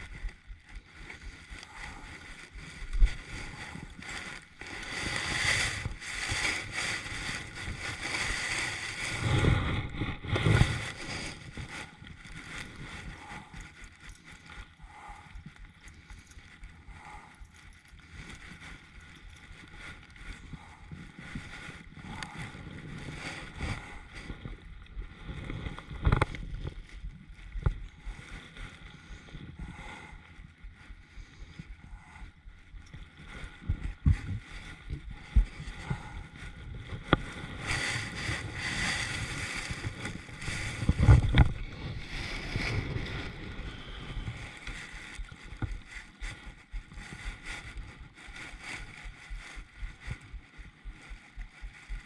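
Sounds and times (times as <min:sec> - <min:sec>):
wind noise on microphone: 0:00.0 - 0:52.0.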